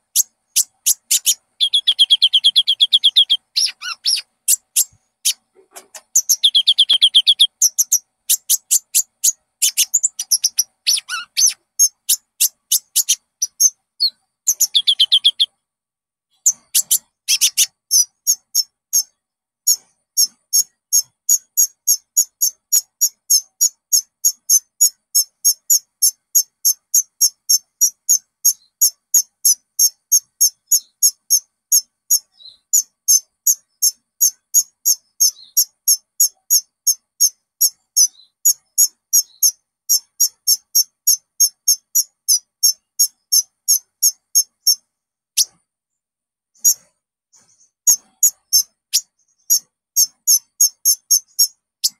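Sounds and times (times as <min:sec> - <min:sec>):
bird chirping high-pitched: 0:00.0 - 0:15.6, 0:16.4 - 0:45.6, 0:46.6 - 0:51.9.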